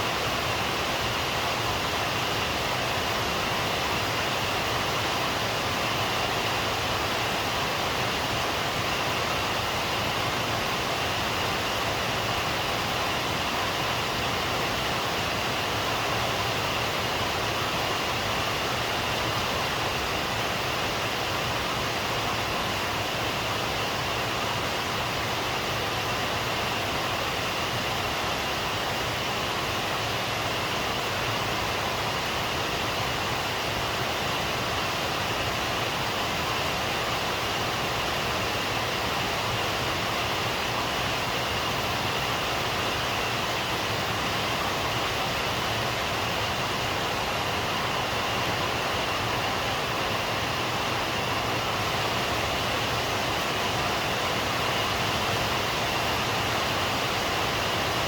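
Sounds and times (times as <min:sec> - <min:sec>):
heavy rainfall hiss: 0:00.0 - 0:58.0.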